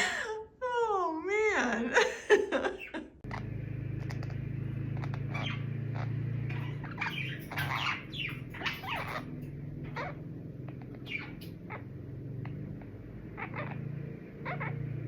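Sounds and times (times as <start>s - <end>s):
low background hum: 0.0s - 15.0s
parakeets squawking and chirping: 2.8s - 15.0s.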